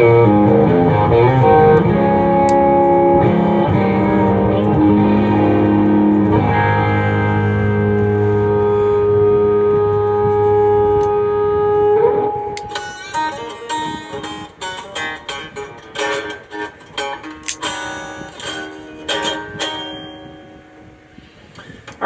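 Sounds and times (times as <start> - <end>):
electric guitar playing: 0.0 - 22.0.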